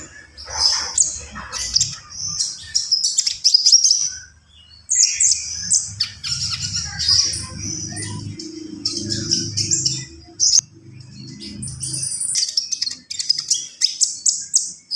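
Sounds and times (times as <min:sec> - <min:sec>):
songbird singing: 0:00.0 - 0:14.9.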